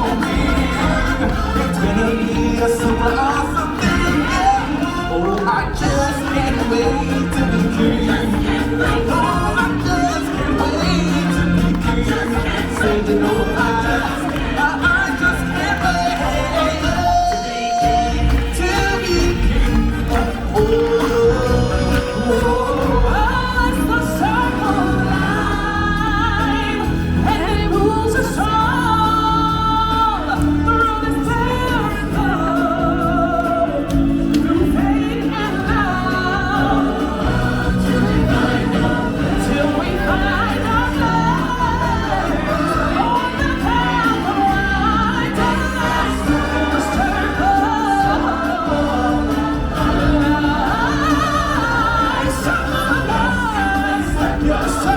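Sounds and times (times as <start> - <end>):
band backing track: 0.0 - 54.9
group of voices singing: 0.0 - 54.9.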